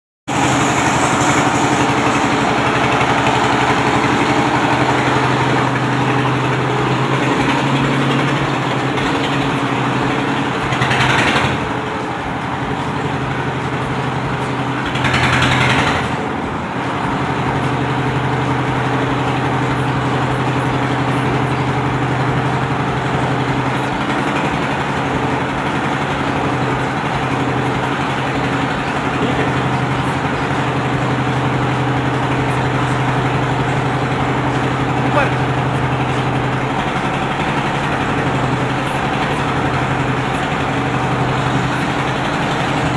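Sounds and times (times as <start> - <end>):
diesel engine running: 0.3 - 42.9.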